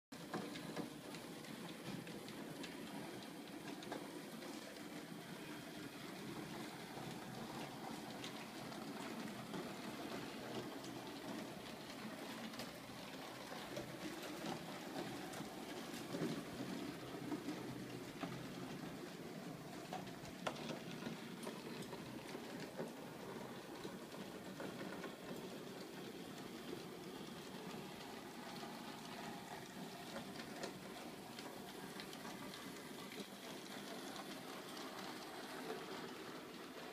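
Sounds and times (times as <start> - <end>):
model train wheels rumbling: 0.2 - 36.9
small clicks over rail: 0.2 - 36.9.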